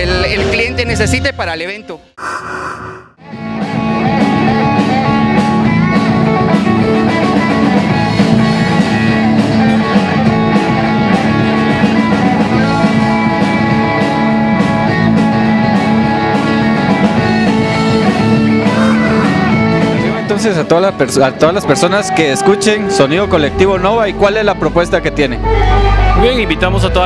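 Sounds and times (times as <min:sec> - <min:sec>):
electric bass: 0:02.2 - 0:27.0
electric guitars: 0:03.3 - 0:26.2.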